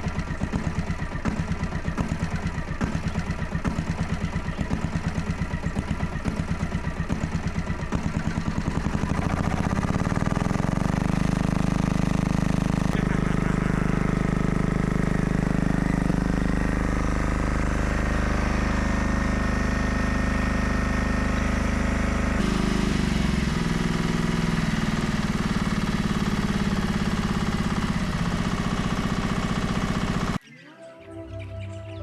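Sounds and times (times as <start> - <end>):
excavator diesel engine running: 0.0 - 30.4.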